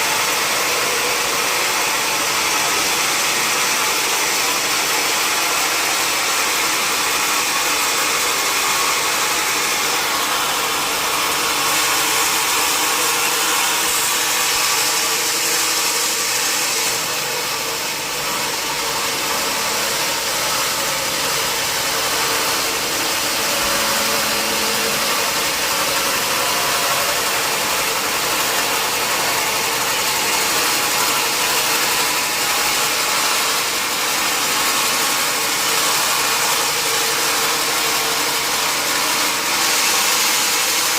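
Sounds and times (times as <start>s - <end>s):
sawmill saw running: 0.0s - 40.9s.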